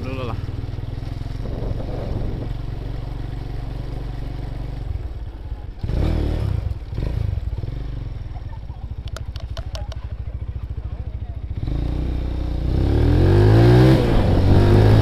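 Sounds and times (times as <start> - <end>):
motorcycle engine idling: 0.0 - 13.2.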